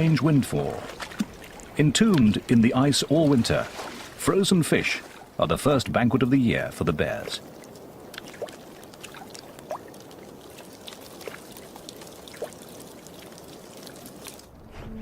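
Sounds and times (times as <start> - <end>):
small water drips: 0.0 - 6.2, 7.0 - 14.5
meltwater trickling and splashing: 0.0 - 14.5.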